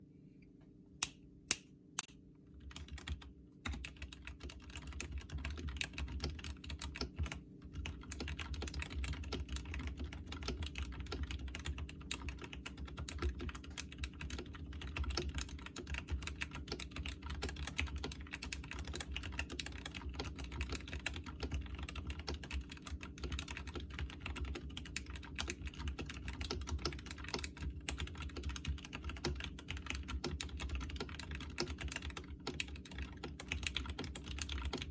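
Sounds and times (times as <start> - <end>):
mechanical keyboard typing: 2.6 - 34.9.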